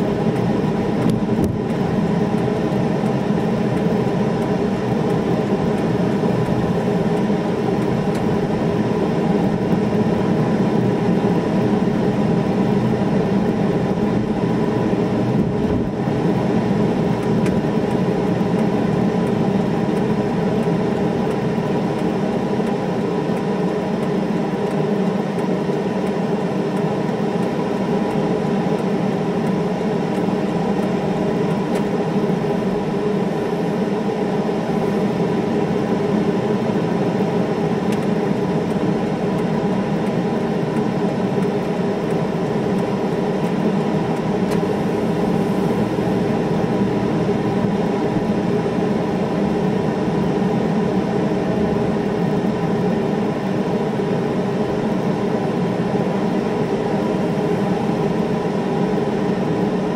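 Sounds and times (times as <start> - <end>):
car cabin hum: 0.0 - 59.9.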